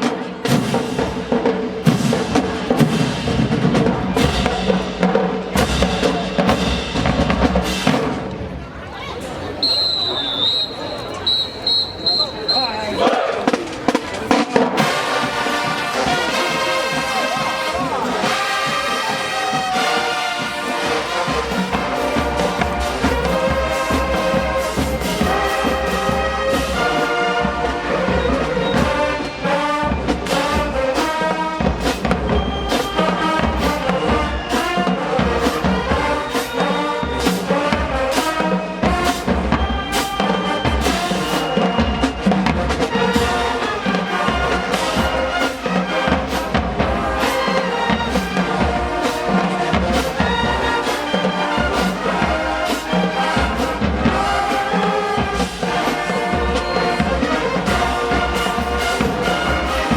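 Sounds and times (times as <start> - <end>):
snare drum: 0.0 - 8.2, 11.3 - 59.9
trumpets and trombones: 0.0 - 8.3, 9.2 - 59.9.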